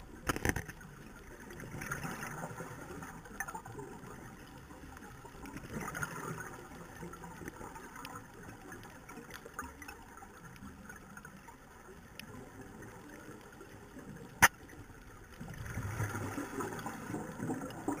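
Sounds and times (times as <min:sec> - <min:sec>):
gurgling bubbles: 0:00.0 - 0:18.0
underwater watery wash: 0:00.0 - 0:18.0.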